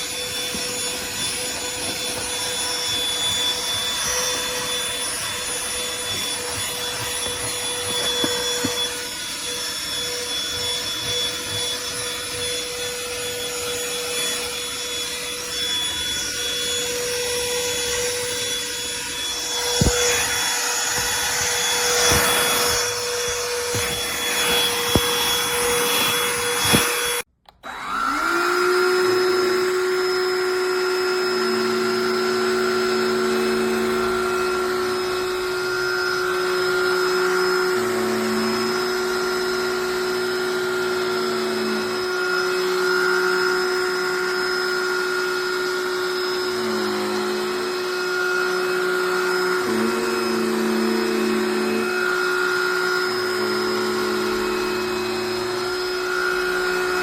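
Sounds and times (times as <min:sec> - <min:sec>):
vacuum motor running: 0:00.0 - 0:57.0.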